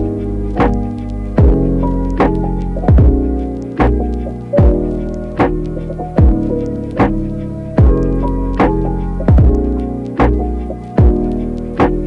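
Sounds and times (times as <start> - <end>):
deep kick drum: 0.0 - 11.3
lo-fi hip-hop music: 0.0 - 12.0.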